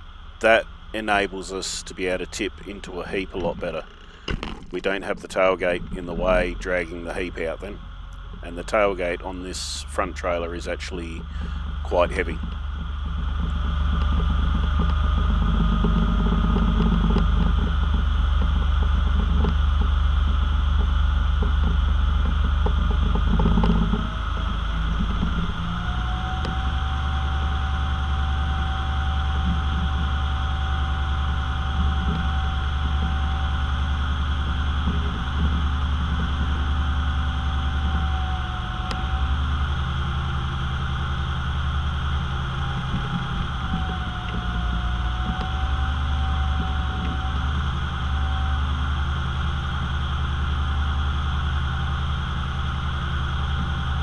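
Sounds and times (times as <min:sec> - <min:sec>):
diesel truck engine running: 0:00.0 - 0:54.0
steady high whine: 0:00.0 - 0:54.0.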